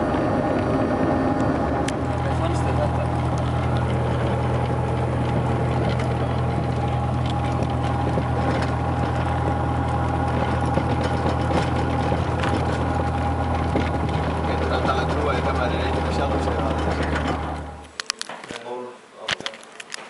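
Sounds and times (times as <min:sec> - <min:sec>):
small airplane engine droning: 0:00.0 - 0:18.0.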